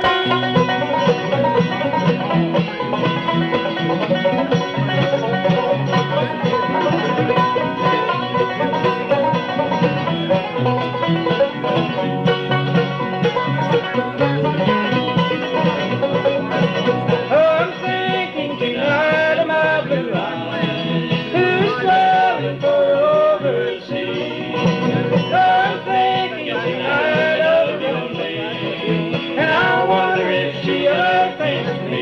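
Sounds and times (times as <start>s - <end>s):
banjo: 0.0s - 32.0s
fiddle: 0.0s - 32.0s
guitar: 0.0s - 32.0s
walking bass line: 0.0s - 32.0s.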